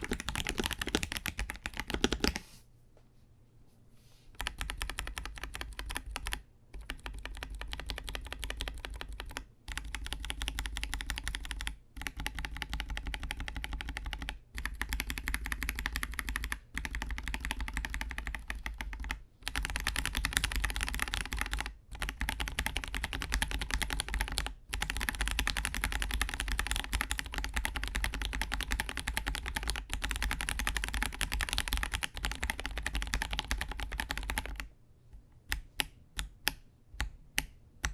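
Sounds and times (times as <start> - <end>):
mechanical keyboard typing: 0.0 - 2.4, 4.4 - 34.7.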